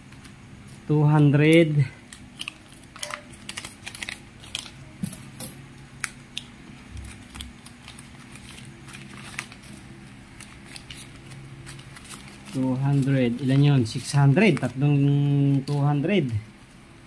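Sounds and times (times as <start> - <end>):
banknotes crinkling and rustling: 0.0 - 5.3, 6.0 - 16.8.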